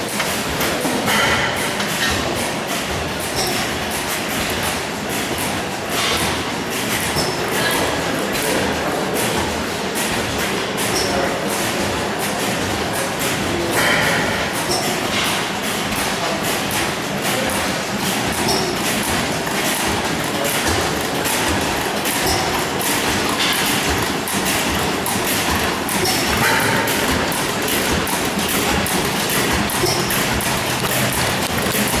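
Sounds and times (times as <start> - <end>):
old gas engines clattering: 0.0 - 32.0.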